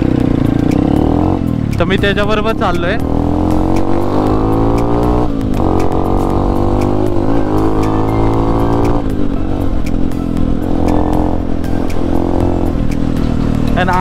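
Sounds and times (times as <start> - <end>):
motorcycle engine pulling away: 0.0 - 14.0.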